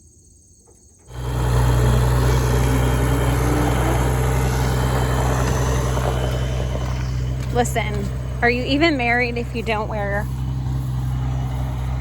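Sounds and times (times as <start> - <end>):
tractor diesel engine running: 1.0 - 12.0.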